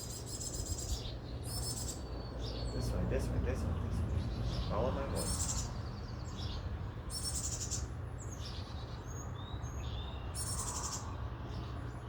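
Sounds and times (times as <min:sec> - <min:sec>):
small birds chirping: 0:00.0 - 0:03.0, 0:04.1 - 0:11.8.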